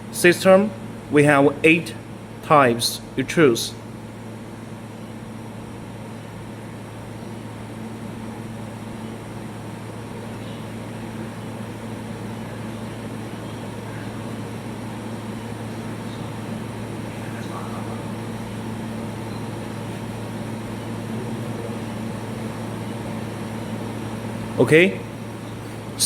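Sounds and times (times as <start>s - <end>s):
machine electrical hum and fan: 0.0s - 26.0s.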